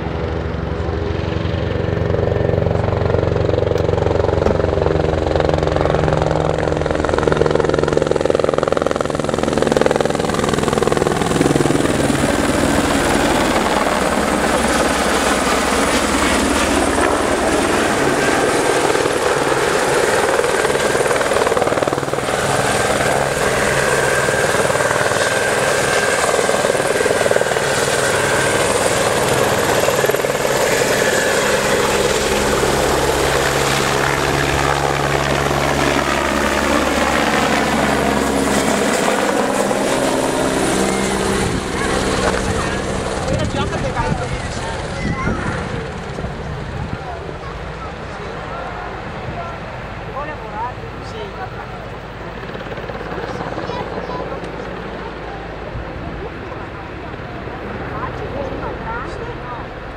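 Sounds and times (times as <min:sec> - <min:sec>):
helicopter rotor beat: 0:00.0 - 0:59.9
high turbine whine: 0:00.0 - 0:59.9.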